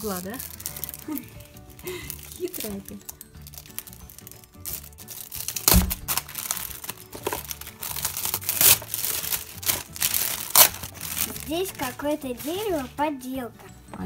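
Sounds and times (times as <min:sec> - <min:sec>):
gift wrap crinkling and tearing: 0:00.0 - 0:13.3.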